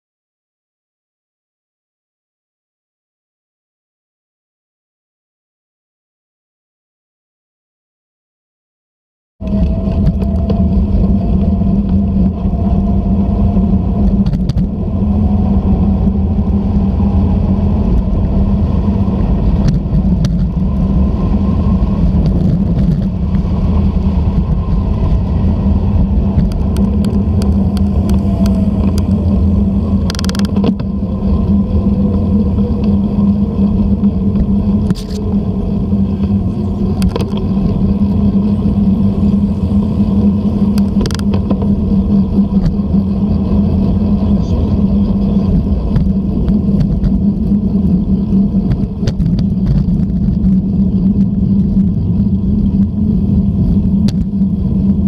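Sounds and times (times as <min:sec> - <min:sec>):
wind and tyre rumble: 0:09.4 - 0:55.0.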